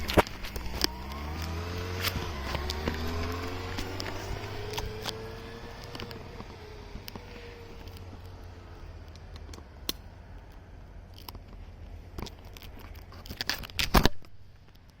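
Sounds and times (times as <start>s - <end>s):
low steady rumble: 0.0s - 13.5s
clicks and rustling: 0.0s - 15.0s.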